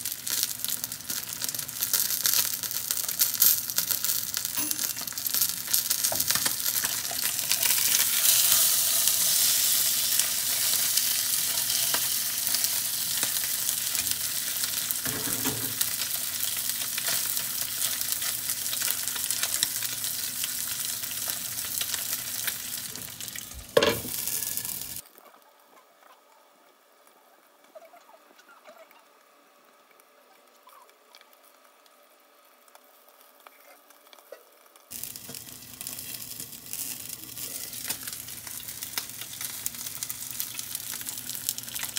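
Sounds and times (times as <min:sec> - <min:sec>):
fish sizzling in oil: 0:00.0 - 0:25.1, 0:31.3 - 0:41.9.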